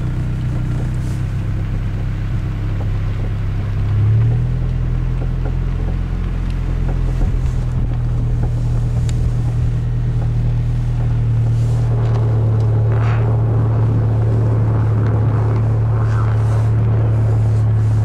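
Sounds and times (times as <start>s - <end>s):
car engine drone: 0.0s - 18.0s
road noise: 0.0s - 18.0s.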